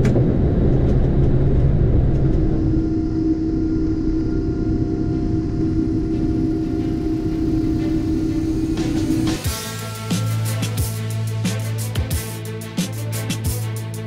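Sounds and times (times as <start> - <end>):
high-pitched hum: 0.0 - 14.0
jet engines rumbling: 0.0 - 14.0.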